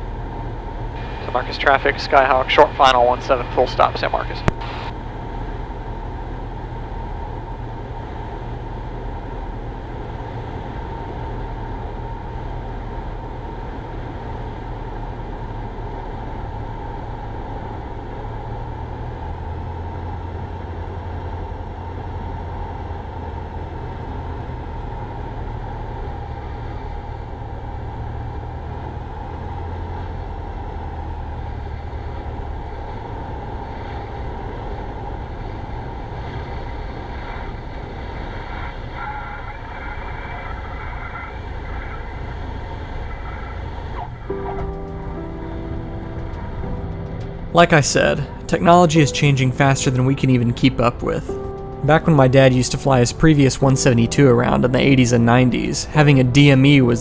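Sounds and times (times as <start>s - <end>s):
airplane engine and propeller: 0.0s - 57.0s
deep rumble: 0.0s - 57.0s.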